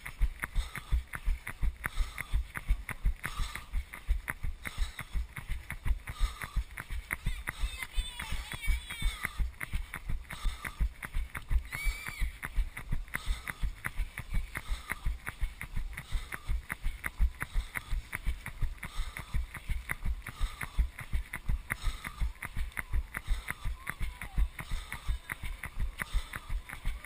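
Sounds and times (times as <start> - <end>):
running footsteps on wet pavement: 0.0 - 27.0.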